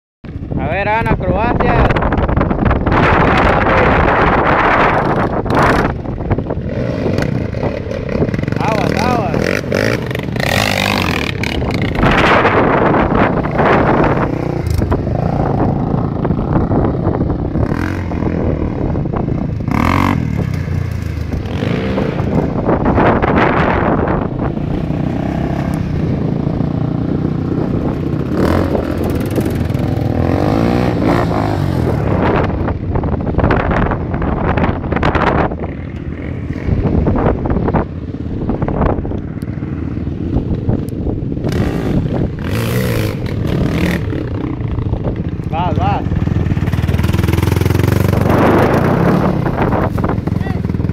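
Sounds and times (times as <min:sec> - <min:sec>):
atv engines revving: 0:00.3 - 0:50.9
wind on microphone: 0:00.3 - 0:50.9.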